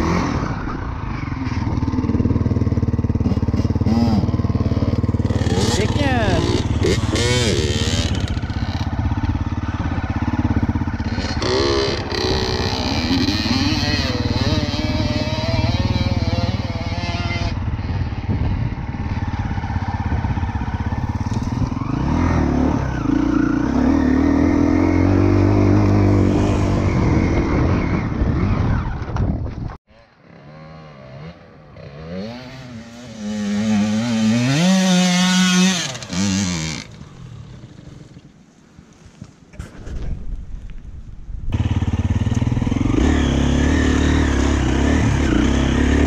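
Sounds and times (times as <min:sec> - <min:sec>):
motorcycle engine revving: 0:00.0 - 0:38.2, 0:41.5 - 0:46.0
distant dirt bike climbing: 0:00.0 - 0:46.0.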